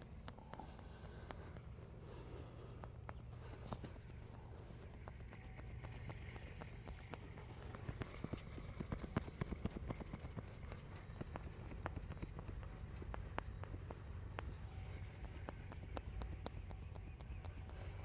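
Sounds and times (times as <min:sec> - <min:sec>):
hands slapping skin: 0:00.0 - 0:18.0.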